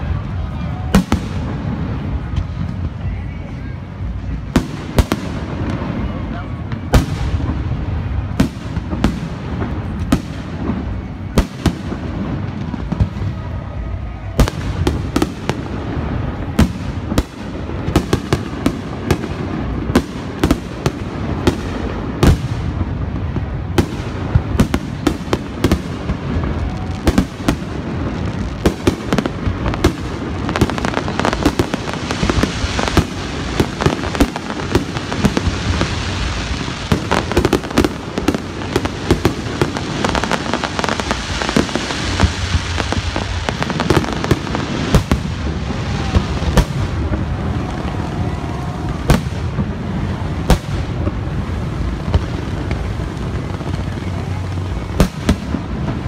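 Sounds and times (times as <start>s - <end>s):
crackling hiss: 0.0s - 56.0s.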